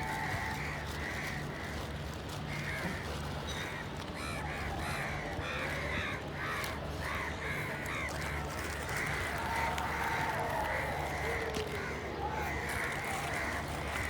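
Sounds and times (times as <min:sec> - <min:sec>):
crows cawing: 0:00.1 - 0:01.9, 0:02.5 - 0:14.0.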